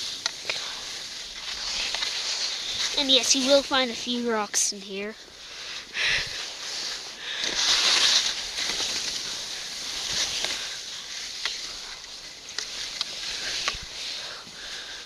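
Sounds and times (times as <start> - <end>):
skis hissing through snow: 0.0 - 15.0.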